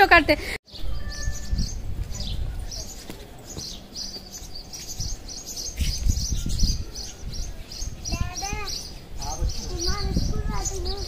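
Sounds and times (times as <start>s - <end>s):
small birds chirping: 0.7s - 11.0s.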